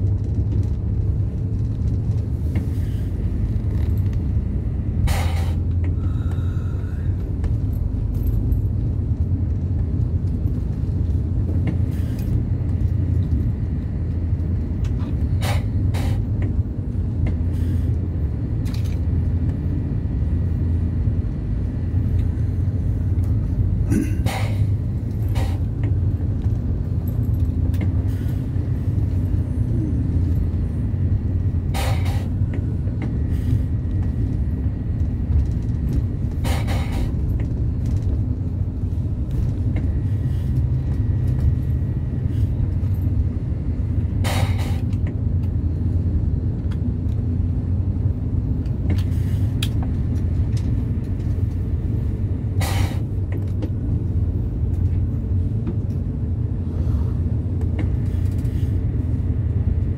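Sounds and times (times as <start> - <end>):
vehicle driving on wet road: 0.0 - 59.9.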